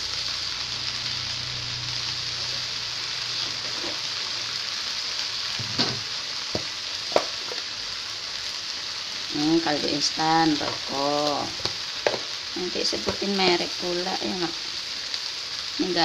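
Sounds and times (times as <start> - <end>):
greens sizzling in a wok: 0.0 - 16.0.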